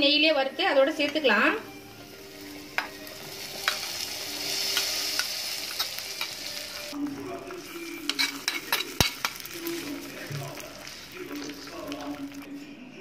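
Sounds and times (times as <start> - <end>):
hot oil sizzling: 0.9 - 12.5.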